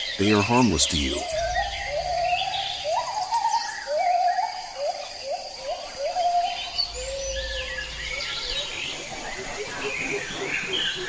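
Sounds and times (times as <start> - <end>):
high bird chirps: 0.0 - 10.1
birds whistling notes: 0.0 - 11.0
faint high insect hum: 0.0 - 11.0.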